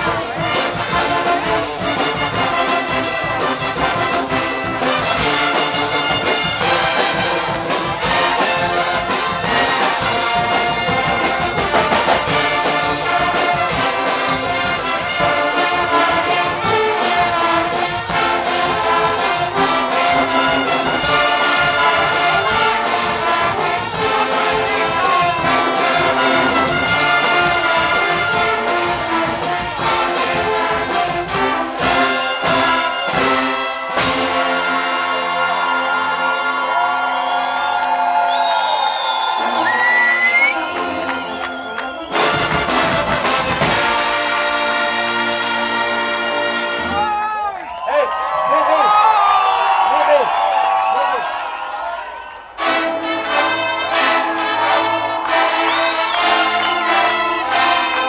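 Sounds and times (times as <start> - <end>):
brass band playing: 0.0 - 47.3, 48.2 - 58.0
drums beating: 0.0 - 51.7, 52.6 - 58.0.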